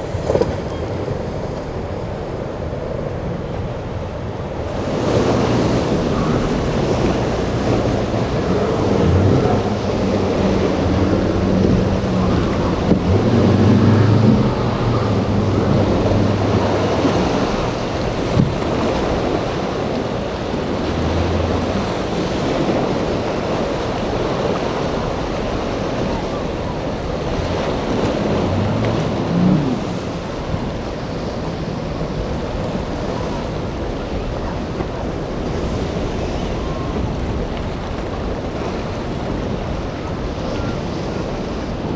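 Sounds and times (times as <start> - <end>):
boat engines: 0.0 - 41.9
wind buffeting microphone: 0.0 - 41.9
surf breaking: 4.6 - 41.9.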